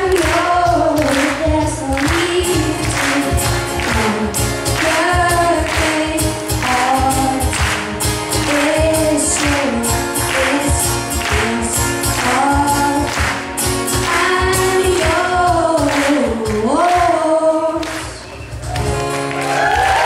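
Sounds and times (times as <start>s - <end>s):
boy singing: 0.0s - 13.1s, 14.0s - 18.1s
strummed acoustic guitar: 0.0s - 17.2s
cajon beat: 0.0s - 20.0s.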